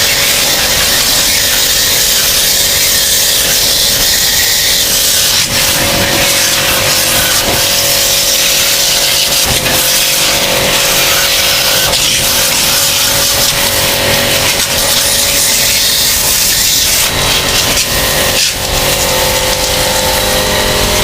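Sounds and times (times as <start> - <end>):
pressure washer jet hissing: 0.0 - 21.0.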